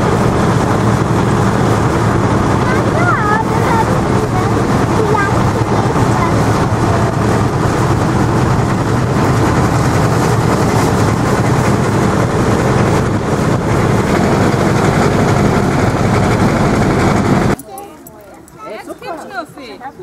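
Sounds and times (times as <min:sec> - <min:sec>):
vehicle rolling noise: 0:00.0 - 0:17.6
vehicle engine hum: 0:00.0 - 0:18.6.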